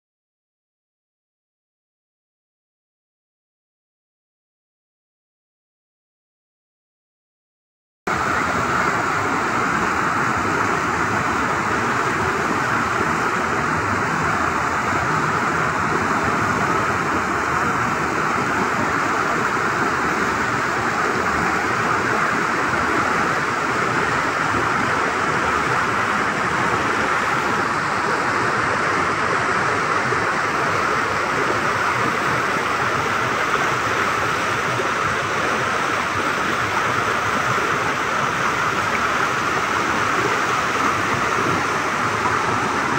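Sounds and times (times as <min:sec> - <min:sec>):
river rapids rushing over rocks: 0:08.1 - 0:42.9.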